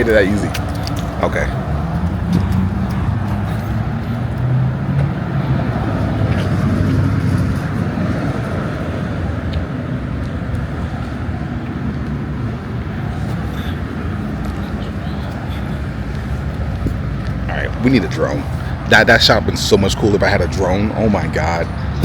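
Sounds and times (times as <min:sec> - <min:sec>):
cars rumbling by: 0:00.0 - 0:22.0.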